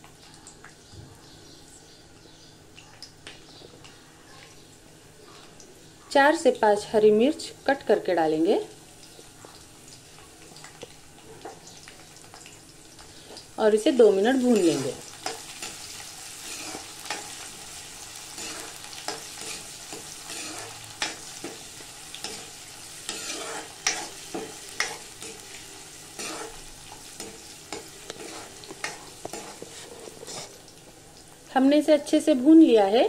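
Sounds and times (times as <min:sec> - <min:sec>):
vegetables sizzling in hot oil: 0:03.1 - 0:33.0.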